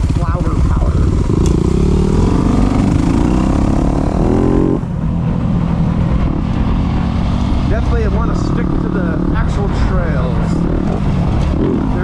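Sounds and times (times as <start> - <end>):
dirt bike engine accelerating: 0.0 - 12.0
heavy low rumble: 0.0 - 12.0.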